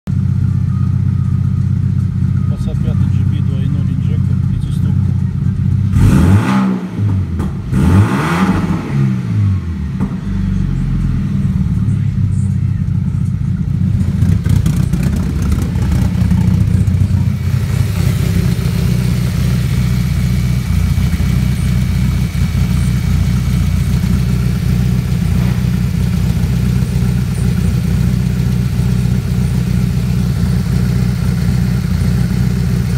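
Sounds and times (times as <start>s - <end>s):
car engine revving and idling: 0.1s - 32.9s.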